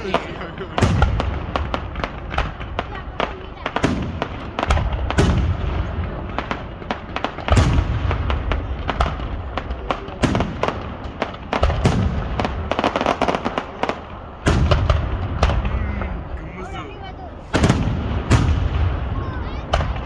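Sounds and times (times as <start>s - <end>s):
aerial shells booming: 0.0s - 13.4s, 14.4s - 16.3s, 17.5s - 20.0s
fireworks crackling and popping: 0.0s - 20.0s.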